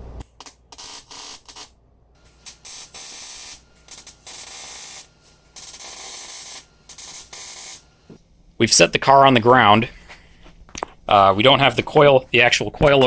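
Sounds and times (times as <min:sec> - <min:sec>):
welder arc hissing: 0:00.0 - 0:11.8.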